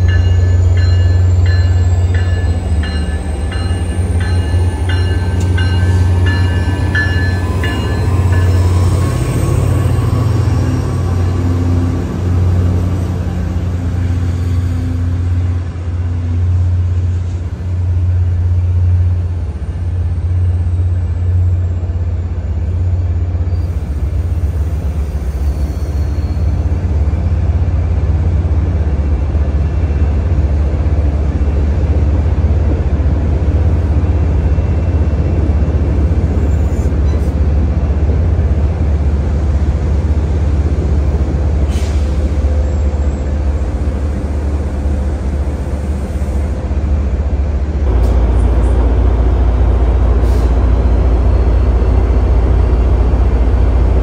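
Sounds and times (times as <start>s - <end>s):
diesel locomotive engine throbbing: 0.0s - 25.8s, 26.4s - 54.0s
train coaches rumbling by: 0.0s - 54.0s.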